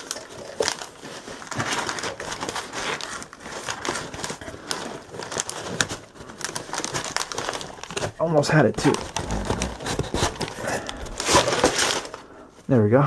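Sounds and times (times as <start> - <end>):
packaging crinkling and scraping: 0.0 - 13.0.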